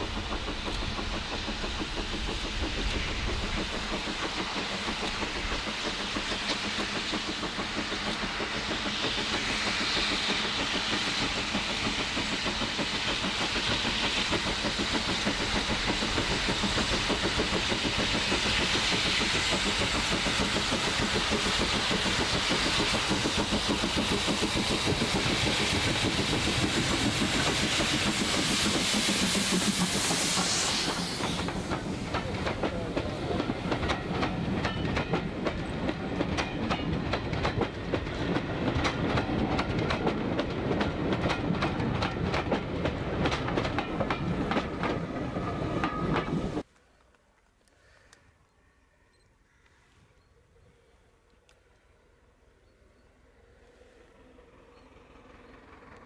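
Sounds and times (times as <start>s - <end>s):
hiss of steam: 0.0s - 46.7s
steam locomotive running past: 0.0s - 46.8s, 49.9s - 56.0s.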